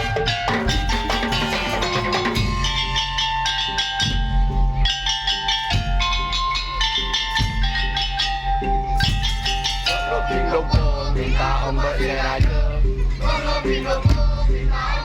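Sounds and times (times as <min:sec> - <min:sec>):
high held melody: 0:00.0 - 0:14.8
wood-block strikes: 0:00.0 - 0:14.9
drums: 0:00.0 - 0:15.0.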